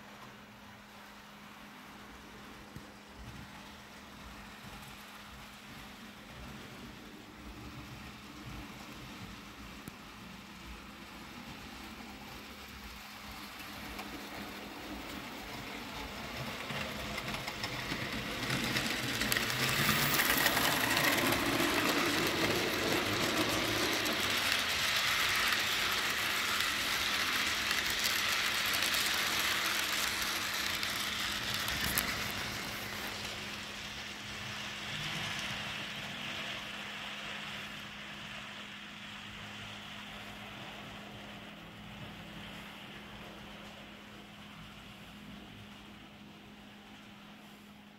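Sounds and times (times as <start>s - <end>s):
model train wheels rumbling: 0.9s - 47.4s.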